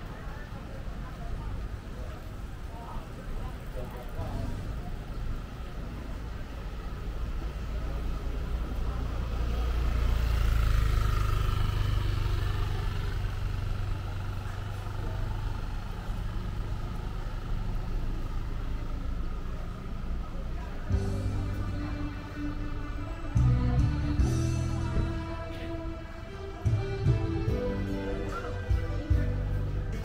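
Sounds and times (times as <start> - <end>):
traffic hum: 0.0 - 30.0.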